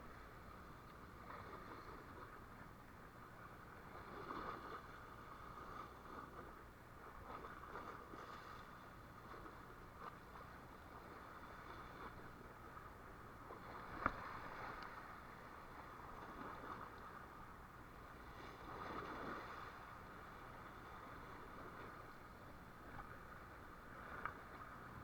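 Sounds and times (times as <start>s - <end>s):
wind and water hiss: 0.0s - 25.0s.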